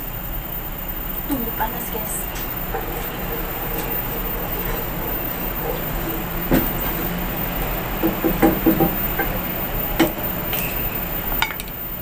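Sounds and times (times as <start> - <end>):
steady rushing hum: 0.0 - 12.0.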